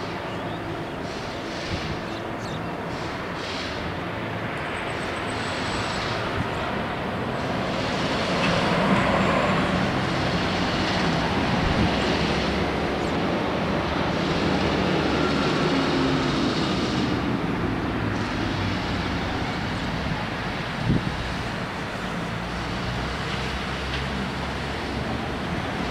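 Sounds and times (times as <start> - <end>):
vehicle engines droning: 0.0 - 25.9.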